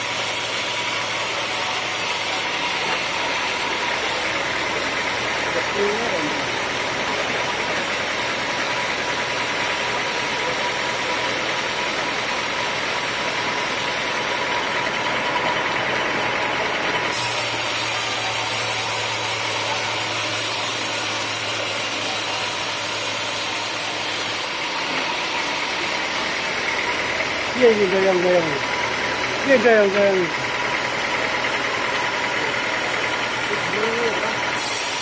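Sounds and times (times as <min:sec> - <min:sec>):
band saw running: 0:00.0 - 0:35.0.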